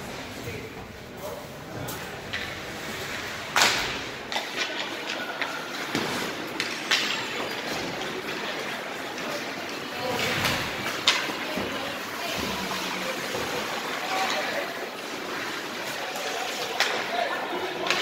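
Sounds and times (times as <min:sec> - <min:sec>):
skates scraping ice: 0:01.4 - 0:18.0
hockey sticks and puck clacking: 0:01.9 - 0:18.0.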